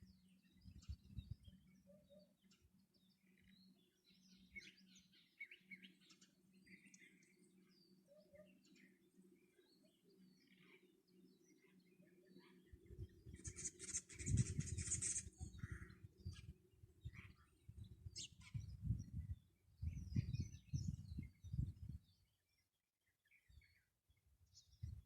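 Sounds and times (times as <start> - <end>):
wild birds chirping: 0.0 - 22.6.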